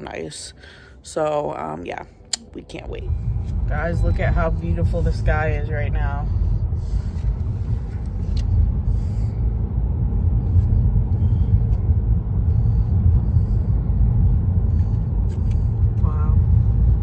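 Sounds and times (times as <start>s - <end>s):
vehicle road rumble from cabin: 2.3s - 17.0s.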